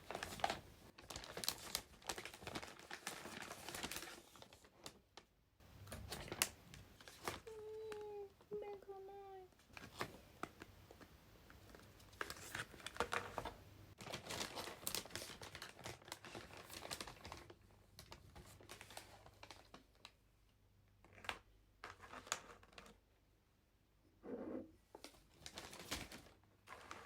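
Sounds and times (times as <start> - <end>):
crinkling handling noise: 0.0 - 20.2, 21.0 - 23.0, 24.9 - 27.0.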